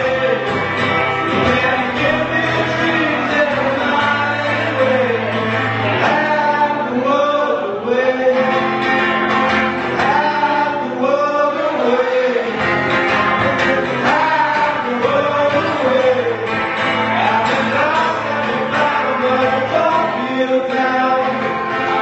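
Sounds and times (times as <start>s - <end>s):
men singing: 0.0s - 8.8s, 9.8s - 22.0s
strummed acoustic guitars: 0.0s - 22.0s.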